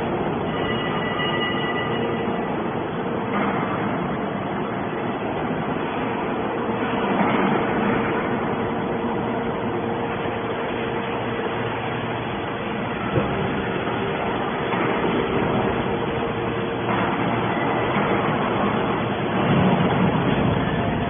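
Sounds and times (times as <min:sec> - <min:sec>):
machinery hum: 0:00.0 - 0:21.0
rushing mechanical noise: 0:00.0 - 0:21.0.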